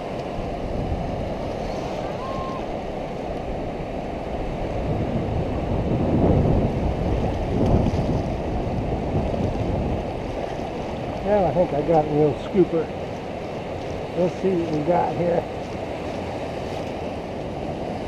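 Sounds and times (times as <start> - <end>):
surf washing in: 0.0 - 18.0
wind buffeting microphone: 0.0 - 18.0.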